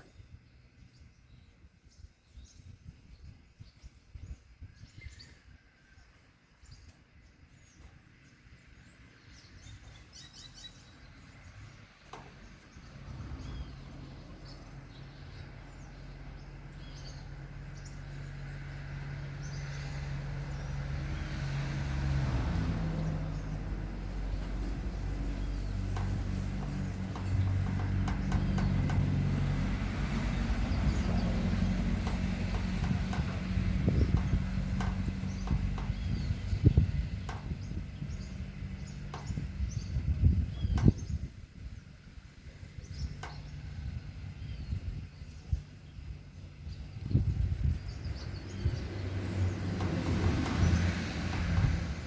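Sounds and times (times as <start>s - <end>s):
wind buffeting microphone: 0.0s - 5.7s, 9.3s - 52.0s
vehicle engine hum: 6.7s - 52.0s.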